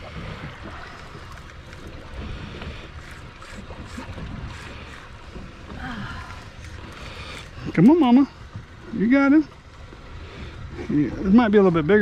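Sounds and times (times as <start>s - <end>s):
water washing against boat hull: 0.0s - 12.0s.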